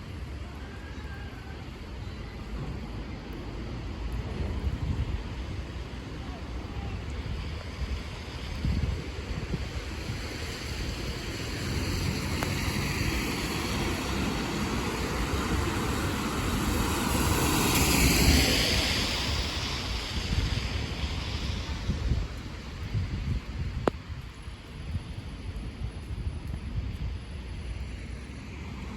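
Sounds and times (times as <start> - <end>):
tyres hissing on wet road: 0.0 - 28.9.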